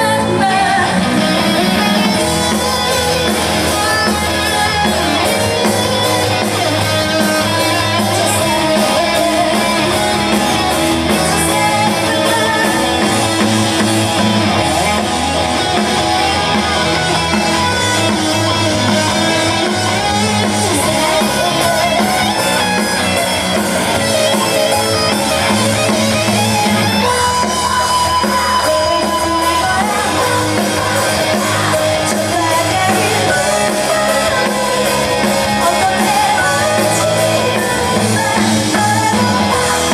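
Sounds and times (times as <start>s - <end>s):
woman singing lead vocal: 0.0s - 5.9s, 6.5s - 13.7s, 16.1s - 23.0s, 26.8s - 39.9s
drum kit: 0.0s - 39.9s
electric guitar: 0.0s - 39.9s
indie rock band playing: 0.0s - 39.9s.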